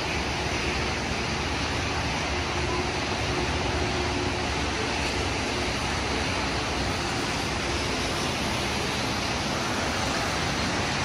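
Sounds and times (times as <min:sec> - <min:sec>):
car tyres swishing on wet road: 0:00.0 - 0:11.0
rain falling: 0:00.0 - 0:11.0.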